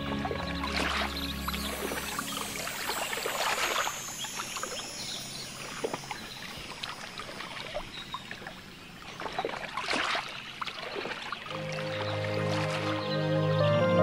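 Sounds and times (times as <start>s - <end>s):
water lapping and splashing: 0.0s - 13.2s.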